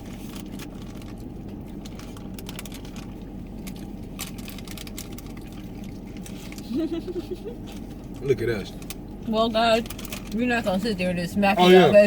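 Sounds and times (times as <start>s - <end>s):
small clicks and crinkles: 0.0s - 10.8s
idling vehicle hum: 0.0s - 12.0s.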